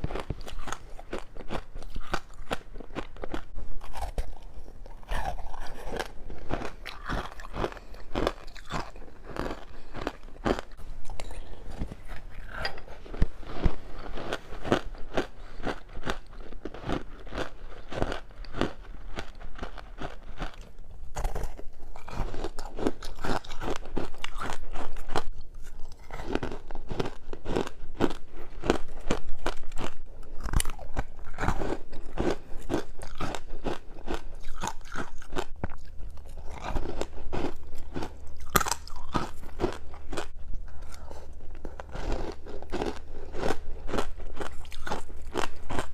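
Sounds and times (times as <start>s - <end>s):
chewing icy frost crunches: 0.0s - 45.9s.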